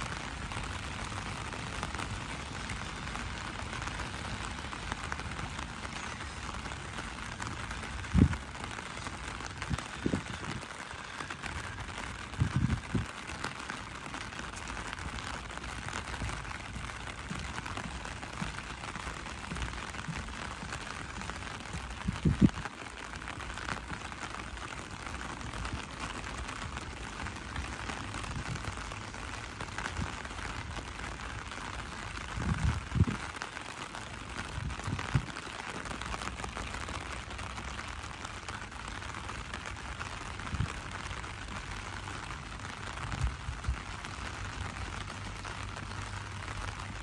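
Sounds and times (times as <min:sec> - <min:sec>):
rain on wet pavement: 0:00.0 - 0:47.0.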